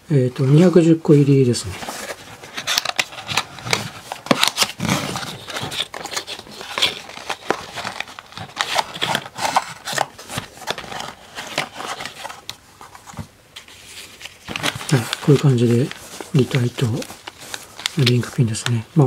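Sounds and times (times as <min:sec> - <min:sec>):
plastic bags rustling and crinkling: 0:01.6 - 0:19.0.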